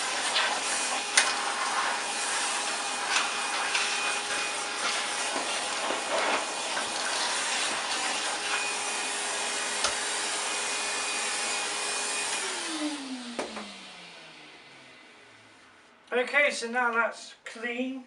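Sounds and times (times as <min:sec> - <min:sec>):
vacuum cleaner motor whining: 0:00.0 - 0:15.9.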